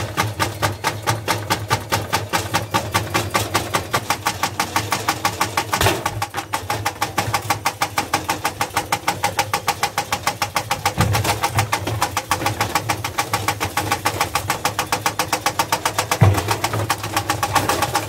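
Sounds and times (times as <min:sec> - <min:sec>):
washing machine rapid knocking: 0:00.0 - 0:18.0.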